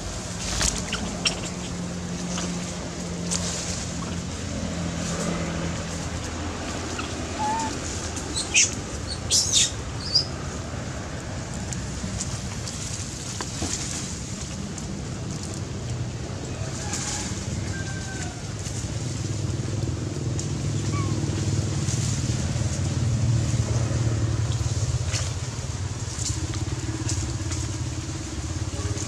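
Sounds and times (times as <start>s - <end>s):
outdoor background noise: 0.0s - 29.0s.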